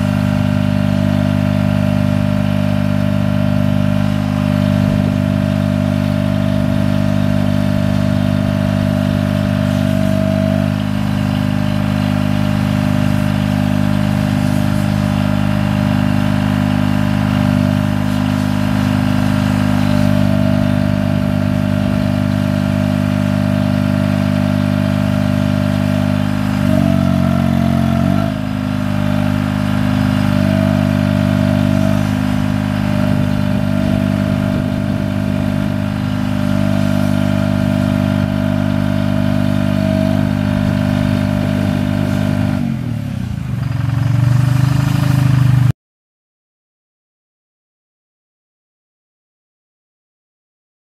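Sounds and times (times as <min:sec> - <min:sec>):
crane engine running: 0:00.0 - 0:45.7.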